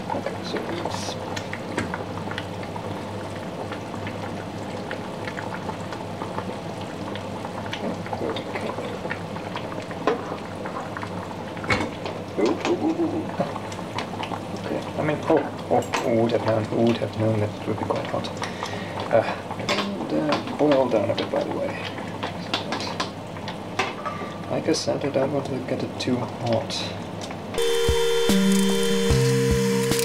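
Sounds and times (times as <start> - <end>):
water simmering and bubbling: 0.0 - 27.6.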